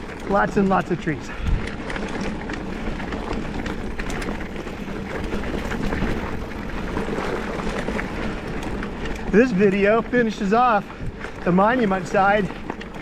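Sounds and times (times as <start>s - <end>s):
bike rattling and clicking: 0.0s - 13.0s
tyre and wind noise: 0.0s - 13.0s.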